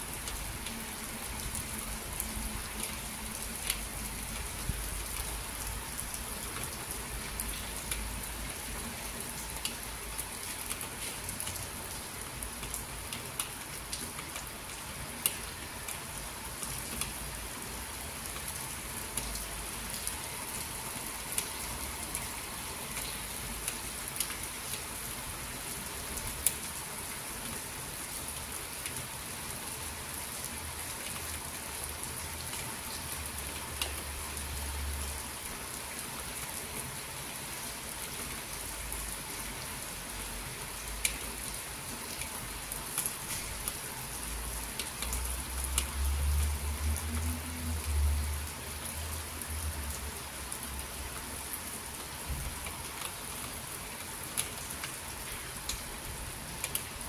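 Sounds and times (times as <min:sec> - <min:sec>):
rain falling on street: 0:00.0 - 0:57.0.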